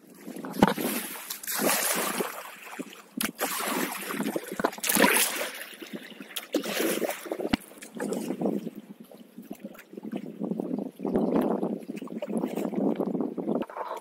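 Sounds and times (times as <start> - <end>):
paddle splashing through water: 0.0 - 10.4, 11.0 - 14.0.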